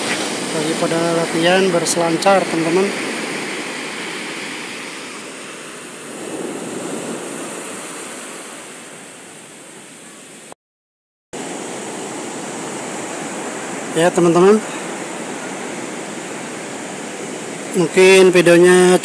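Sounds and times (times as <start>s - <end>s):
ocean surf breaking on beach: 0.0s - 10.5s, 11.4s - 19.0s.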